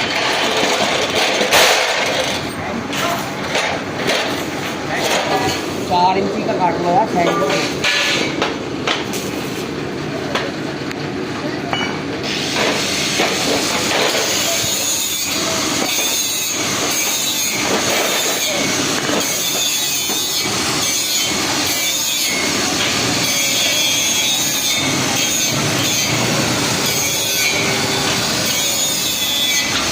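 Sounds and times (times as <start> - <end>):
hacksaw cutting steel: 0.0 - 5.8, 7.2 - 9.3, 12.2 - 29.9.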